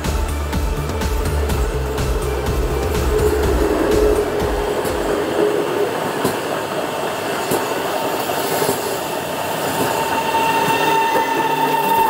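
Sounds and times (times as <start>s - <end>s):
train running on rails: 0.0s - 12.0s
high wheel squeal: 1.6s - 12.0s.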